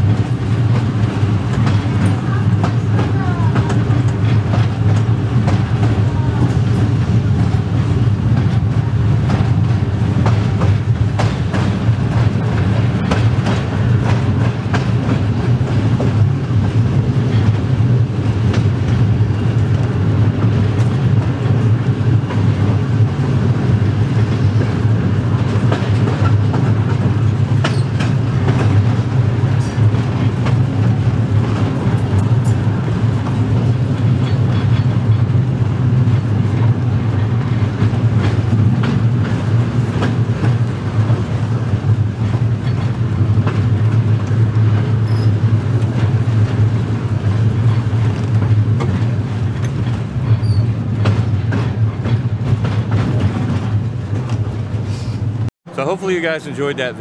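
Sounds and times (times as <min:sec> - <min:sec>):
wheels clicking over rail joints: 0:00.0 - 0:54.9
streetcar low hum: 0:00.0 - 0:57.0.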